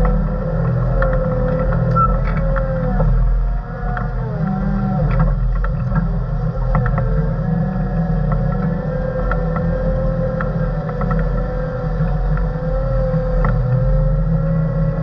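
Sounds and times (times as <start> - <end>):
wavering whine: 0.0 - 15.0.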